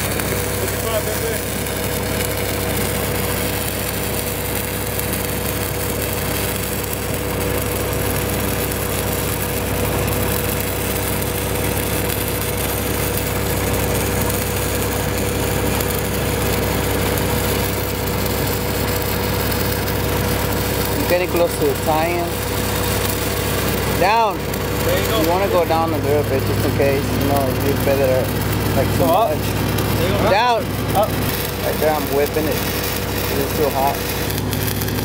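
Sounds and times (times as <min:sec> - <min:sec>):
welding arc crackling: 0:00.0 - 0:35.0
welding machine engine running: 0:00.0 - 0:35.0.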